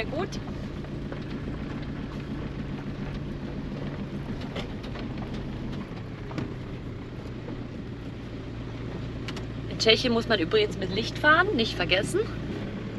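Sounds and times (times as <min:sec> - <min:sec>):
van engine running: 0:00.0 - 0:12.9.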